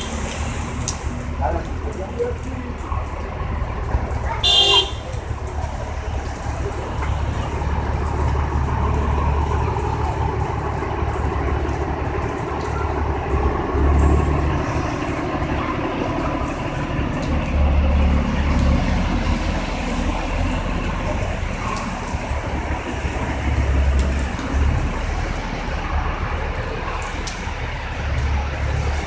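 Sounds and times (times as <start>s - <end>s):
low rumble of road traffic: 0.0s - 29.0s.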